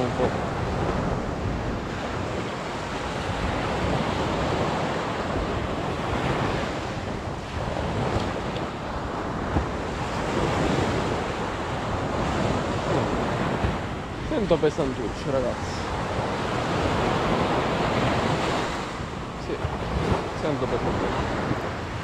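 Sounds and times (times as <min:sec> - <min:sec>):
surf washing onto beach: 0:00.0 - 0:22.0
wind buffeting microphone: 0:00.0 - 0:22.0.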